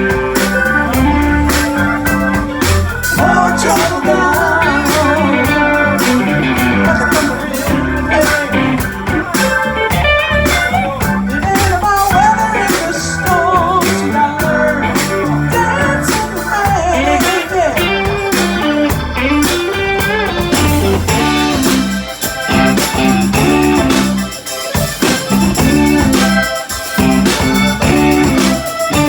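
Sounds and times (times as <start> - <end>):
bass guitar: 0.0 - 29.0
drums: 0.0 - 29.0
electric guitar lead: 0.0 - 29.0.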